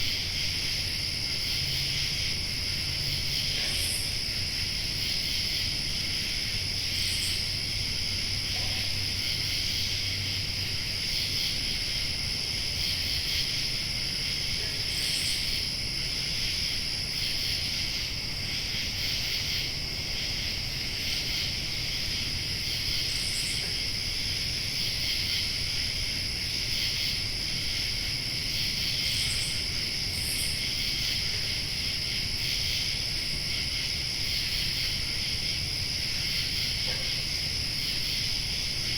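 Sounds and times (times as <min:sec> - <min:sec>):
crickets and insects trilling: 0:00.0 - 0:38.9
high insect chirp: 0:00.0 - 0:38.9.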